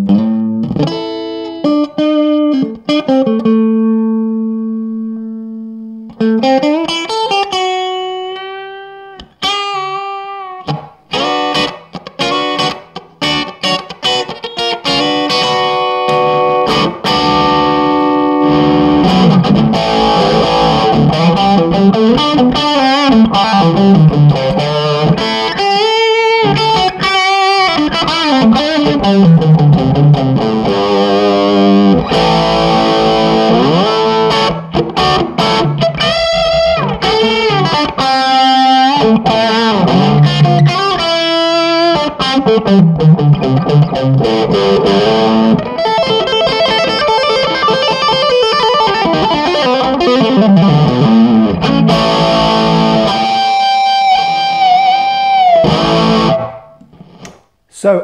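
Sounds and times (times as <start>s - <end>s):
overdriven electric guitar lead: 0.0s - 57.5s.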